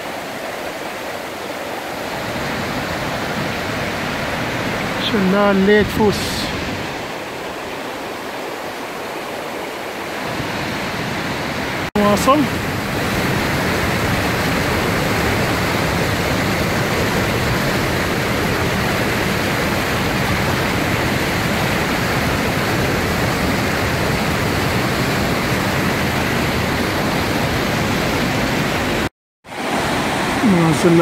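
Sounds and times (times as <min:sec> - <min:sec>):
waterfall rushing over boulders: 0:00.0 - 0:31.0.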